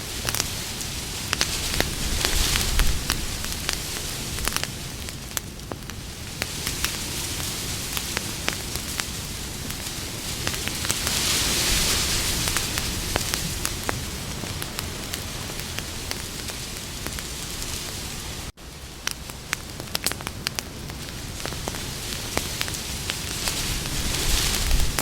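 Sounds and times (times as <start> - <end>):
fire steady hiss: 0.0 - 25.0
wood crackling and popping: 0.0 - 25.0.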